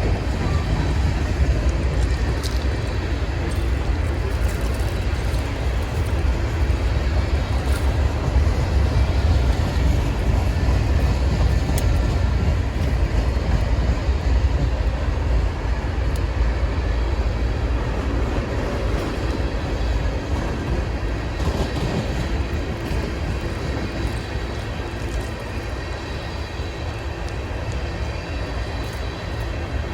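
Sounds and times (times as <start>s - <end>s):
faint rail clicks: 0.0s - 29.9s
freight train rumbling on rails: 0.0s - 29.9s.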